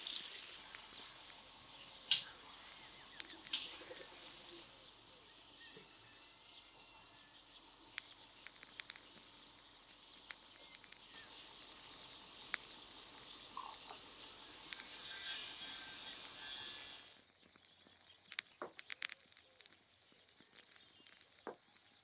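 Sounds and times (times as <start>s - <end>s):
small sharp clicks: 0.0s - 4.7s, 7.9s - 22.0s
faint steady hiss: 0.0s - 6.6s, 7.6s - 22.0s.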